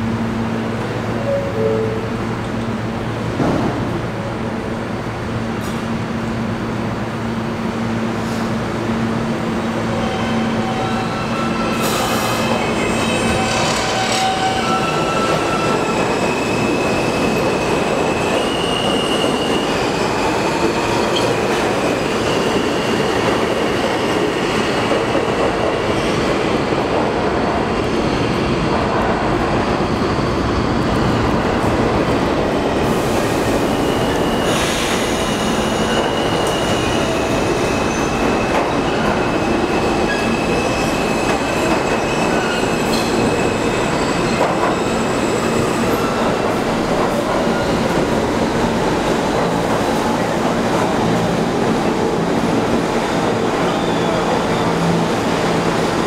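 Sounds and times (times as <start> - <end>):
train wheels rumbling on rail: 2.2 - 56.0.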